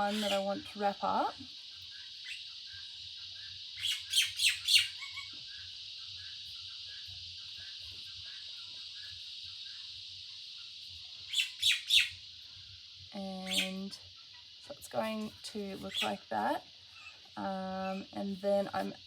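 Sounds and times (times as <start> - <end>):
bird chirping: 0.0 - 18.9
steady high hiss: 0.0 - 19.0.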